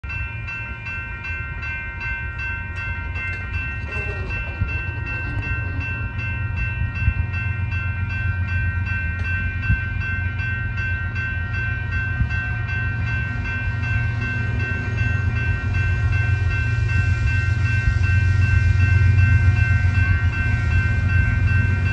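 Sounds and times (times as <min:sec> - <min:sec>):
crossing bell ringing: 0:00.0 - 0:21.9
locomotive low rumble: 0:02.8 - 0:21.9.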